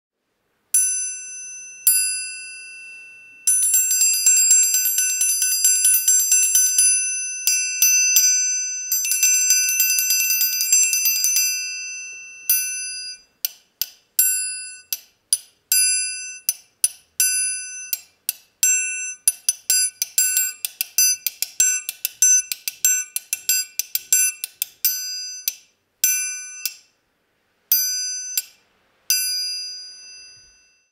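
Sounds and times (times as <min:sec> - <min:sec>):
metal triangle ringing: 0:00.8 - 0:27.0, 0:27.7 - 0:30.9.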